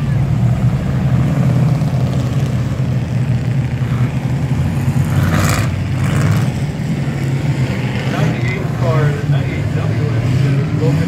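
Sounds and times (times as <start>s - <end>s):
stock car engines droning: 0.0s - 11.0s.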